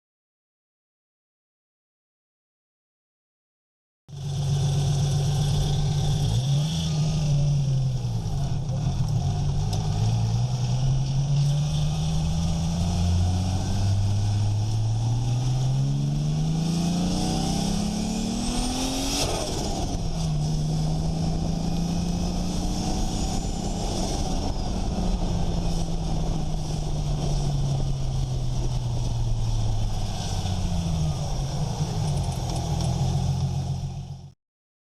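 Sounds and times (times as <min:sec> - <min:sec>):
car engine revving: 0:04.1 - 0:34.3.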